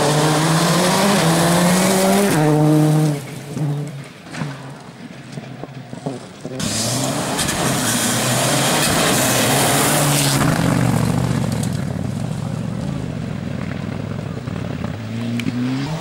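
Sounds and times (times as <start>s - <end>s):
rally car engine under load: 0.0s - 16.0s.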